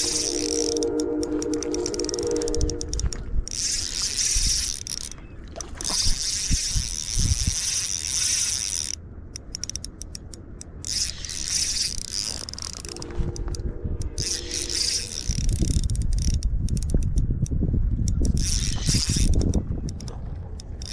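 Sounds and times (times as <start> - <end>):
rapid reel clicks: 0.0 - 5.2, 5.8 - 20.9
fishing reel gears whirring: 0.0 - 20.9.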